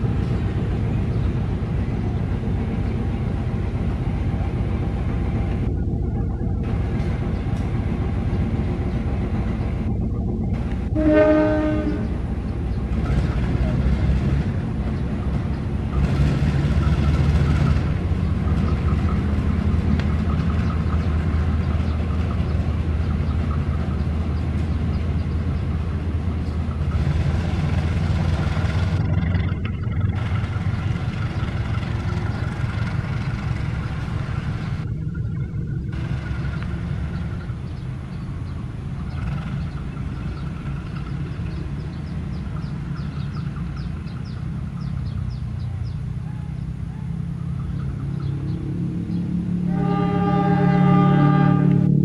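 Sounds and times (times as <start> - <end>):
locomotive engine rumble: 0.0 - 52.0.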